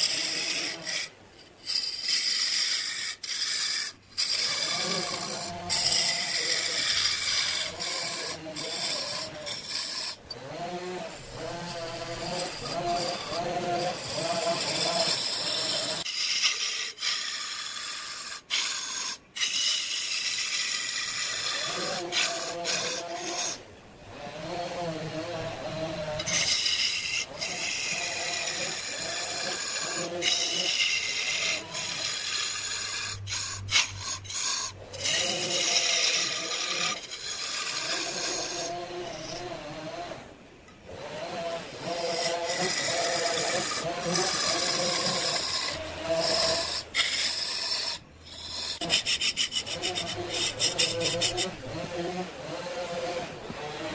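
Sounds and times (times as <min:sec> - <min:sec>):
wood lathe gouge rasping hiss: 0:00.0 - 0:23.6, 0:26.1 - 0:39.5, 0:41.7 - 0:51.6.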